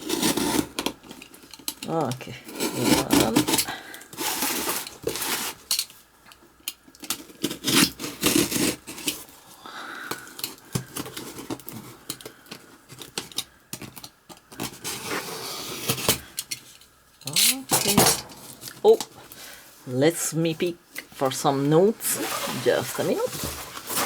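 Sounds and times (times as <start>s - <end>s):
packaging rustling and tearing: 0.0s - 6.0s, 6.8s - 9.4s, 10.2s - 19.4s, 22.1s - 24.0s.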